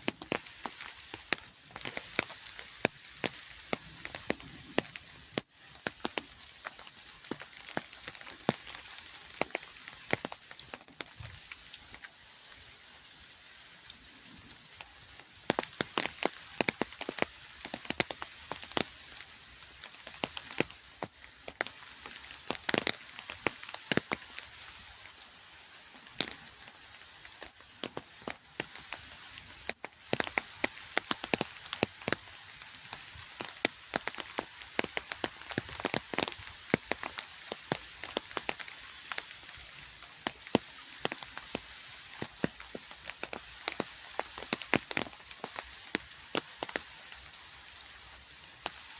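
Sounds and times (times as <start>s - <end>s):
rain falling with sharp drops: 0.0s - 48.9s.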